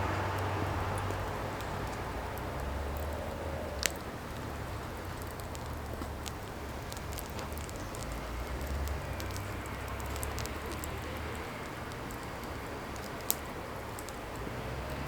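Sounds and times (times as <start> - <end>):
fire low rumble: 0.0 - 15.0
firewood crackling and snapping: 0.0 - 15.0.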